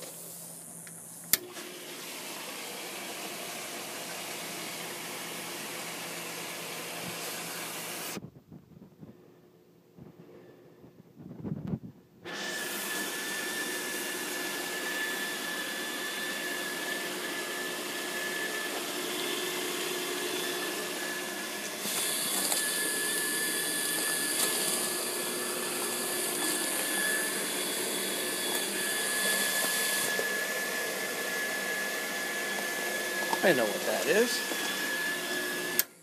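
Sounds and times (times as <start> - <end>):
pool pump rushing with whine: 0.0 - 8.2, 12.2 - 36.0.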